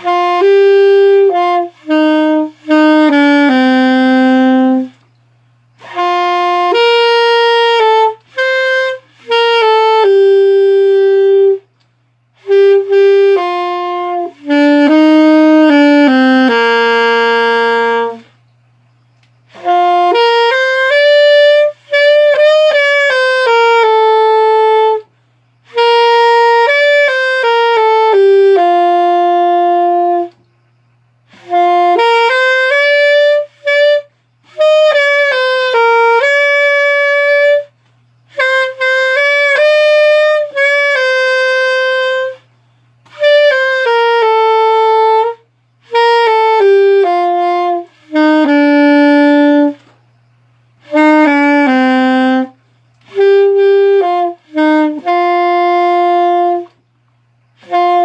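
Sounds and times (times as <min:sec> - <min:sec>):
solo saxophone melody: 0:00.0 - 0:58.0.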